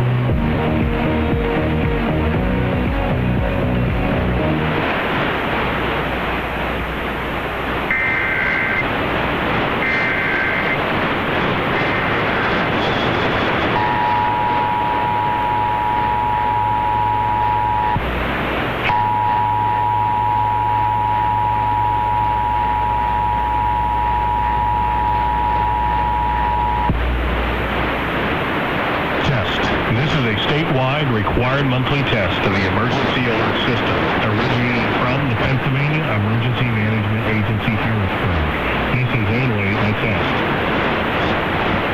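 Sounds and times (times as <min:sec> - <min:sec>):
radio static: 0:00.0 - 0:41.9.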